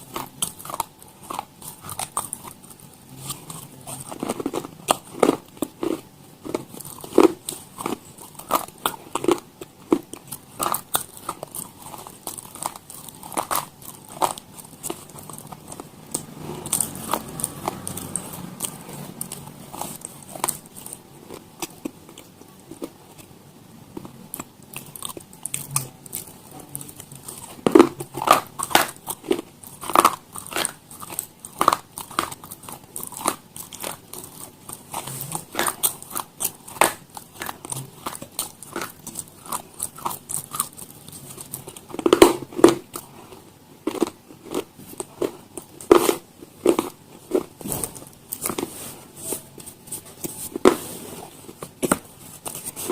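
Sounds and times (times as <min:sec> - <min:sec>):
crunchy food being chewed: 0:00.0 - 0:52.9.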